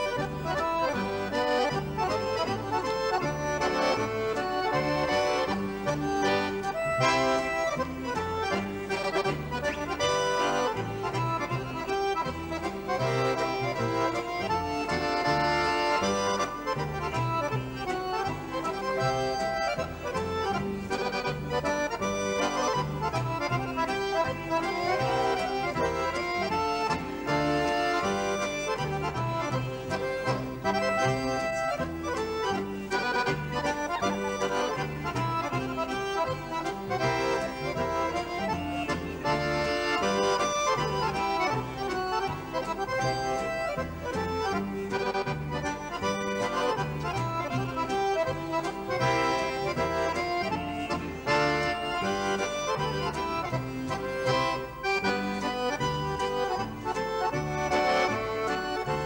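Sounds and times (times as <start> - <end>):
accordions playing melody: 0.0 - 59.0
double bass pulsing: 0.0 - 59.0
guitar: 0.0 - 59.0.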